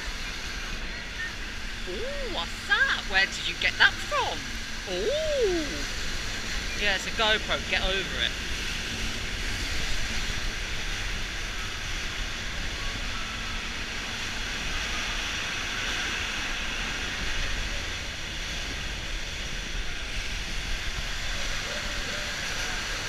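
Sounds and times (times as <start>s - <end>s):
churning water rushing: 0.0s - 23.0s.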